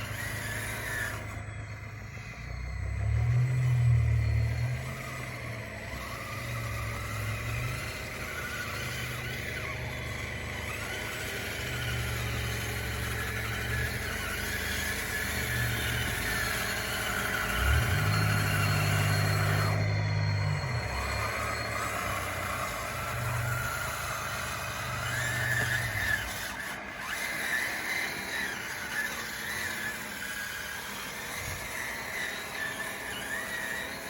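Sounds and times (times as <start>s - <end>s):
electric motor whine: 0.0s - 34.0s.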